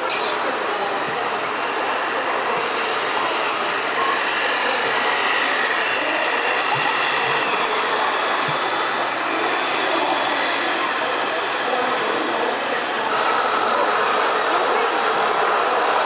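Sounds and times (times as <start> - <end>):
mechanical running noise: 0.0 - 16.0.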